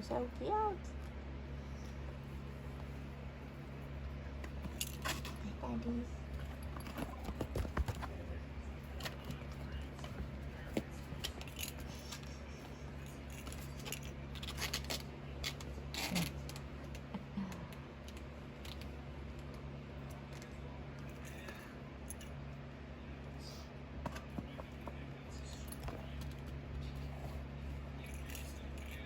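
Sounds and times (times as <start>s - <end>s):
steady low hum: 0.0s - 29.0s
kittens scrambling and scratching: 0.9s - 22.3s, 23.3s - 29.0s.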